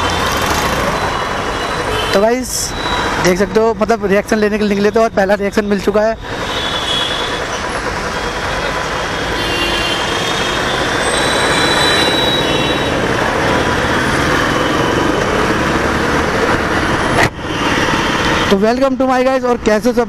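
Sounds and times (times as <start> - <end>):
motorcycle engine and road noise: 0.0 - 20.0.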